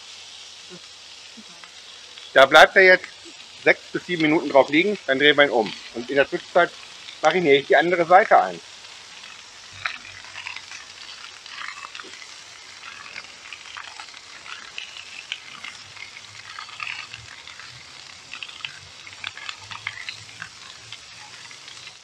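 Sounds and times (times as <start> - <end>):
fish sizzling on a griddle: 0.0 - 22.0
oil spitting and popping: 0.7 - 22.0.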